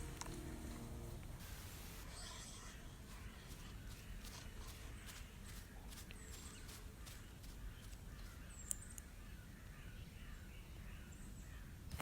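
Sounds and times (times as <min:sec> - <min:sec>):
distant bird calls: 0:00.0 - 0:11.8.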